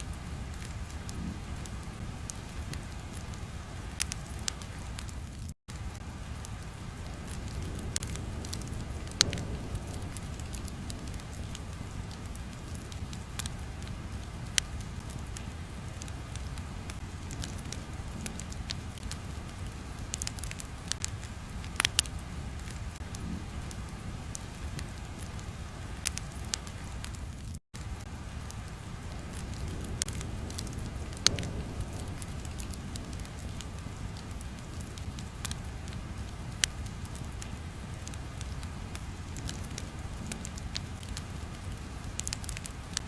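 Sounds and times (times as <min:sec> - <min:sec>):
fire crackling and hissing: 0:00.0 - 0:43.0
fire pops: 0:00.0 - 0:43.0.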